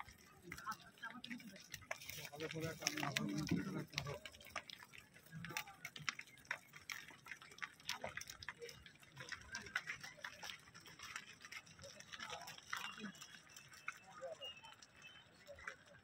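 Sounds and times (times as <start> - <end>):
hooves and footsteps on straw: 0.0 - 14.0
faint distant voices: 0.0 - 16.0.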